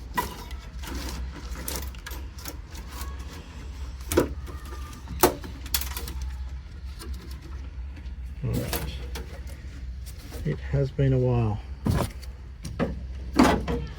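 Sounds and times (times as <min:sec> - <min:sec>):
steady low hum: 0:01.2 - 0:13.7.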